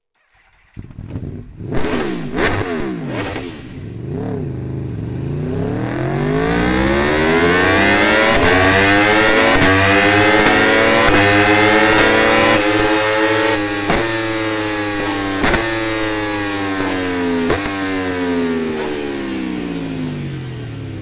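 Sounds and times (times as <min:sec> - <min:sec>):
motorcycle engine revving: 0:00.2 - 0:21.0.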